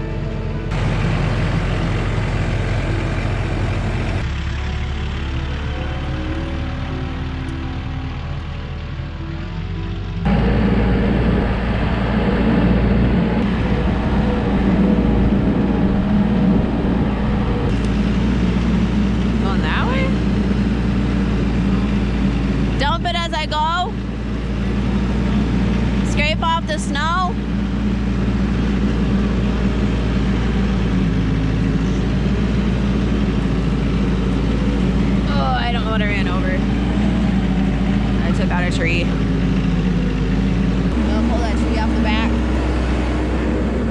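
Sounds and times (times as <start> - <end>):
heavy vehicle engine running: 0.0 - 43.9.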